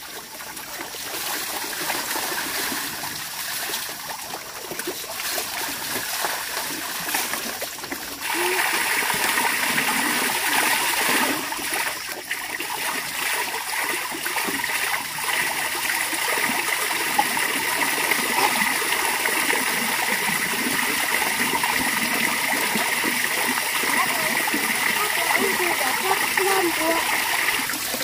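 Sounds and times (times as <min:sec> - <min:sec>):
running water splashing: 0:00.0 - 0:28.0.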